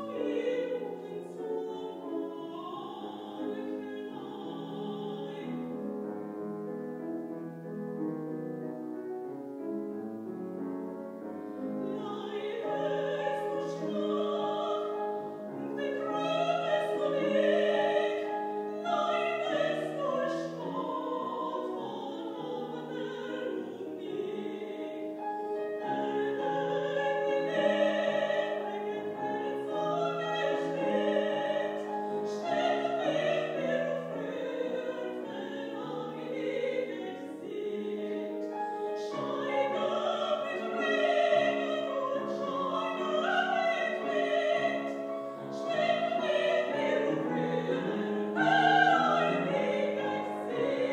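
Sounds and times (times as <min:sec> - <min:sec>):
woman singing operatically: 0:00.0 - 0:05.7, 0:11.8 - 0:25.2, 0:25.8 - 0:50.9
piano accompaniment: 0:00.0 - 0:50.9.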